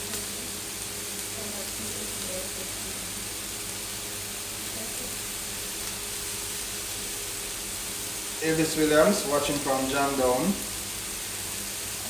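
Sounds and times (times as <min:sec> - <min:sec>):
food sizzling on grill pan: 0:00.0 - 0:12.0.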